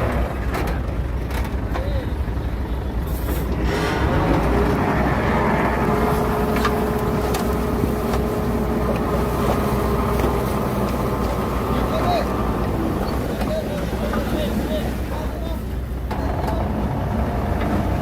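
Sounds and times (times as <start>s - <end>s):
diesel engine rumbling under load: 0.0s - 18.0s.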